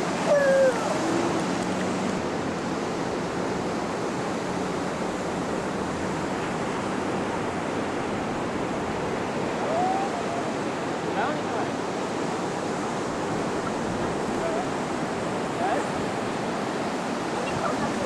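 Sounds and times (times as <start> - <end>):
ocean surf washing onto beach: 0.0 - 18.0.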